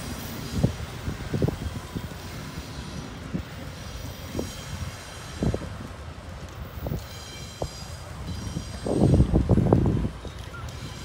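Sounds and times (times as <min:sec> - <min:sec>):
train rumbling down the track: 0:00.0 - 0:11.0
wind buffeting microphone: 0:00.0 - 0:11.0.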